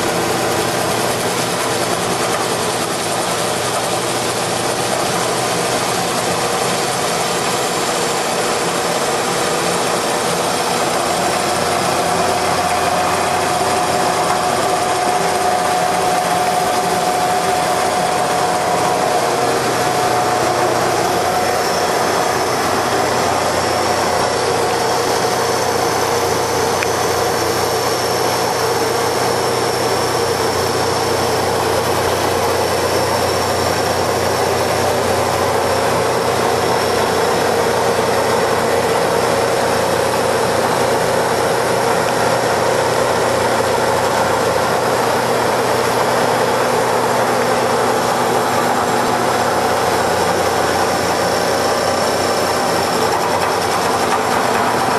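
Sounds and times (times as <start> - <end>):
lathe machine hum: 0.0 - 54.9
steady whining tones: 0.0 - 54.9.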